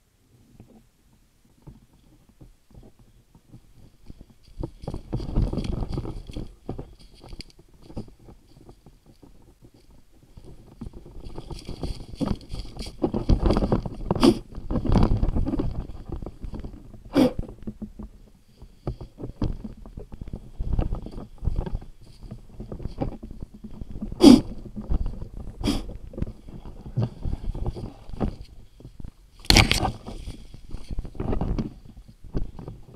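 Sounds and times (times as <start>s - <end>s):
camera rubbing and bumping: 2.4s - 18.2s, 18.8s - 32.9s.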